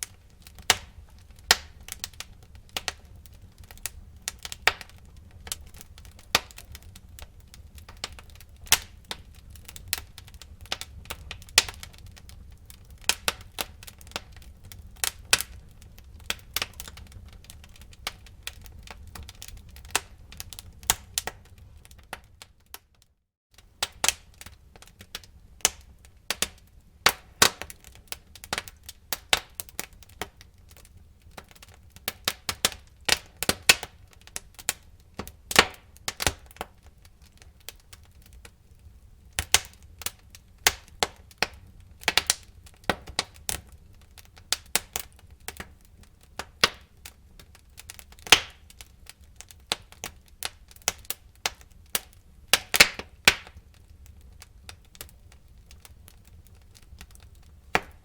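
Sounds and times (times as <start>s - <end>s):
flames rumbling: 0.0s - 22.4s, 23.7s - 58.0s
burning wood crackling and snapping: 0.0s - 23.0s, 23.6s - 58.0s.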